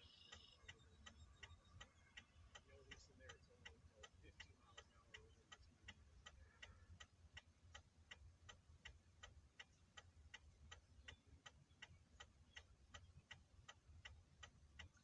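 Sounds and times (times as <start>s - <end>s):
hazard light flasher ticking: 0.0s - 15.0s.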